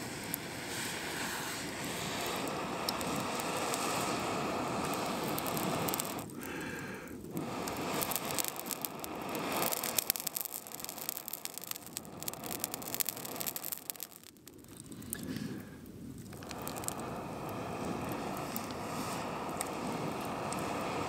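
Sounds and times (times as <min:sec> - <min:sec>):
air hissing through blow poker: 0:00.0 - 0:21.0
embers crackling and popping: 0:00.0 - 0:21.0.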